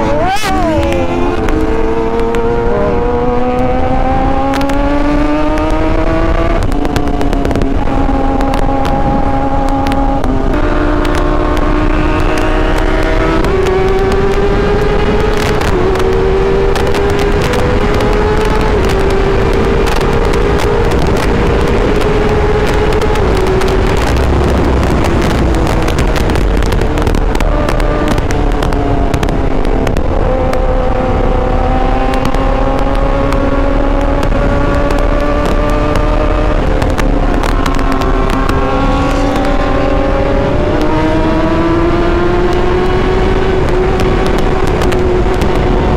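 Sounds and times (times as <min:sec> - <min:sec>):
motorcycle engine at high speed: 0:00.0 - 0:45.9
wind rush on microphone: 0:00.0 - 0:45.9.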